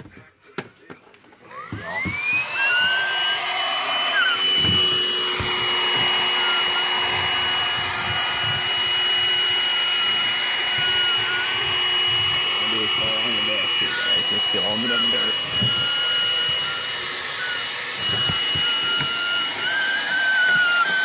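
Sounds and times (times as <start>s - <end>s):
vacuum cleaner motor whine: 1.2s - 21.0s.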